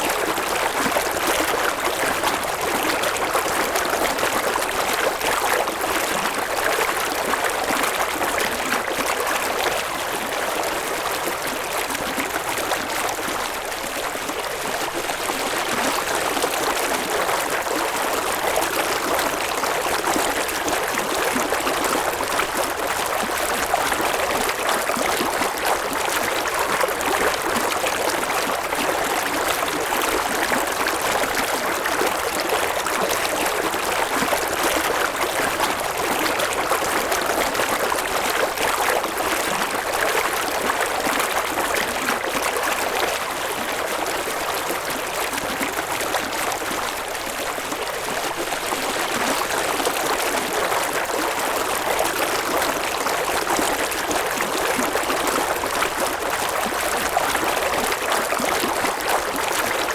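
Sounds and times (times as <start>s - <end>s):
river water flowing over rocks: 0.1s - 59.9s.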